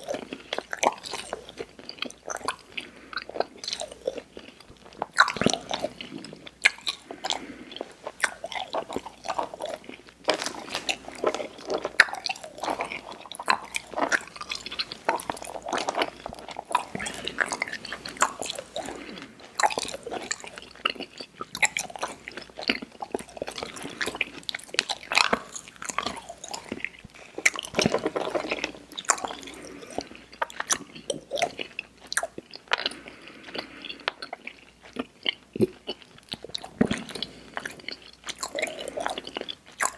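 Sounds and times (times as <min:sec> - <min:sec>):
mouth chewing candy: 0:00.0 - 0:39.9.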